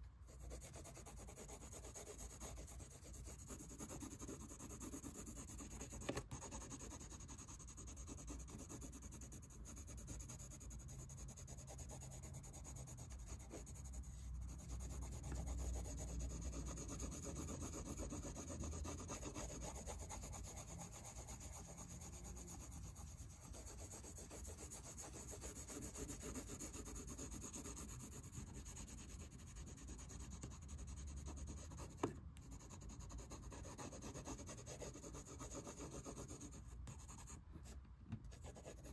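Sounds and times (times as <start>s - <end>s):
colored pencil scratching on paper: 0.0s - 38.9s.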